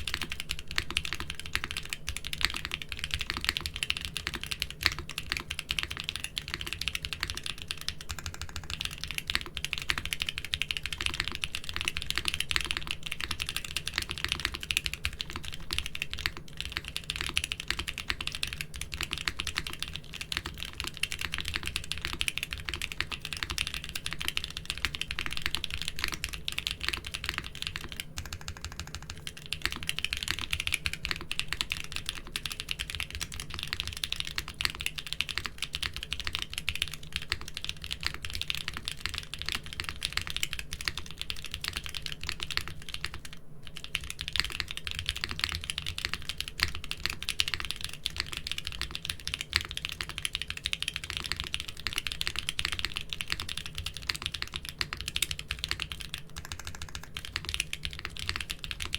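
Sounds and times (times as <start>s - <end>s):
fast typing on mechanical keyboard: 0.0s - 58.9s.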